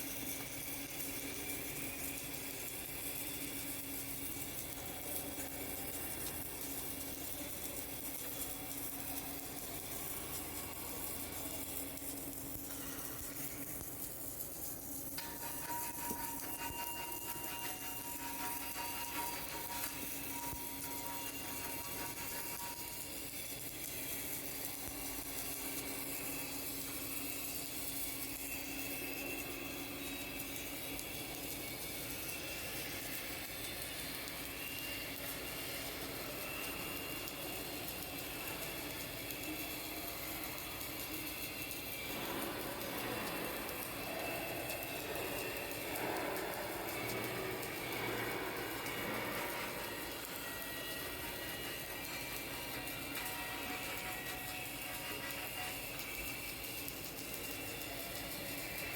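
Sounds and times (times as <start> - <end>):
arc welding hiss and hum: 0.0 - 58.9.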